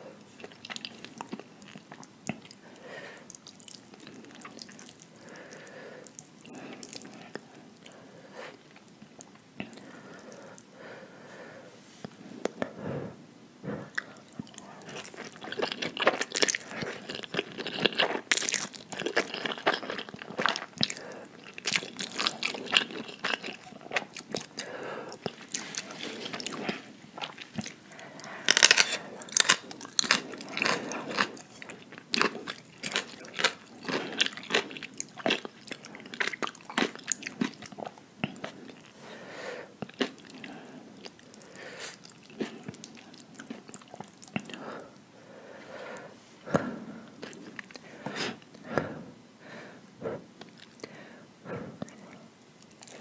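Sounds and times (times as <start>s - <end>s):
person chewing crunchy food: 0.2s - 10.7s, 13.9s - 39.0s, 39.8s - 45.0s, 47.0s - 48.7s, 50.4s - 51.0s, 51.8s - 53.0s.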